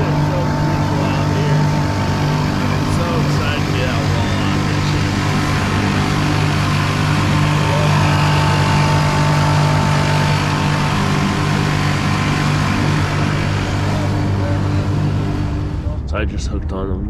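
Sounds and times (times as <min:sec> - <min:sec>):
boat motor humming: 0:00.0 - 0:16.3.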